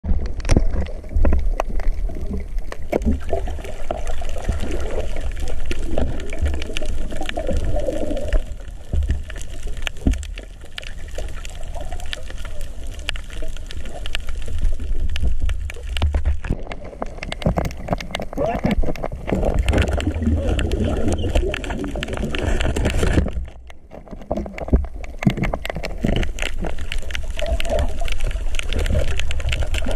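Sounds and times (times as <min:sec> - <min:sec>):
water bubbling underwater: 0:00.0 - 0:29.9.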